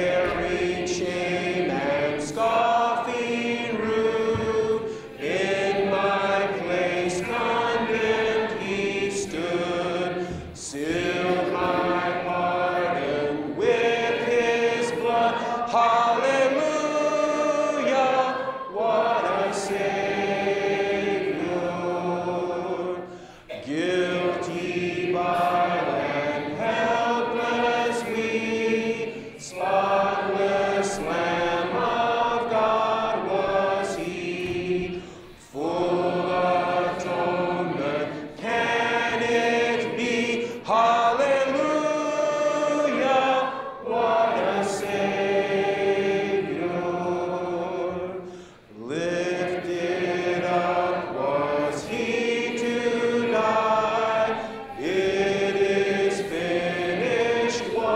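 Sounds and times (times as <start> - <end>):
congregation singing a hymn: 0.0 - 57.9.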